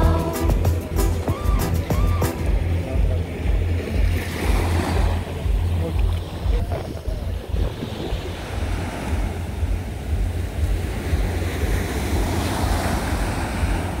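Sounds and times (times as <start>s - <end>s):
surf washing onto beach: 0.0s - 14.0s
wind buffeting microphone: 1.3s - 14.0s.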